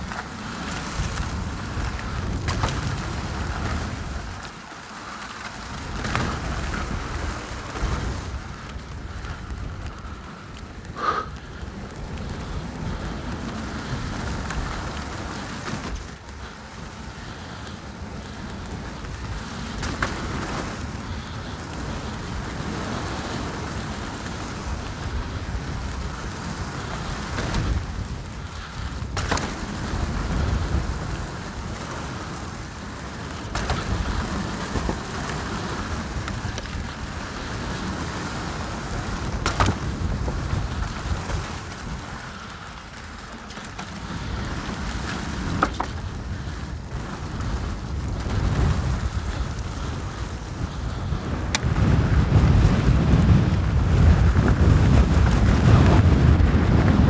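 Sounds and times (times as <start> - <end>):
bike knocking and rattling on rocks: 0.0 - 57.0
bike tyres over rock and gravel: 0.0 - 57.0
wind on microphone: 0.0 - 57.0.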